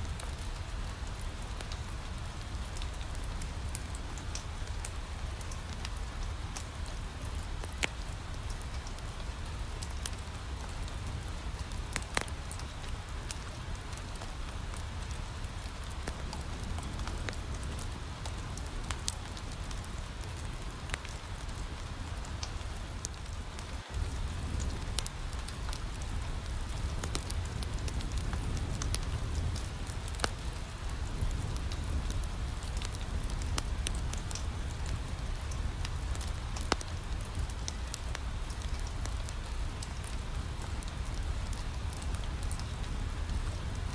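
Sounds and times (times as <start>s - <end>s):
rain pattering on a window: 0.0s - 43.9s
wood fire crackling: 0.0s - 43.9s.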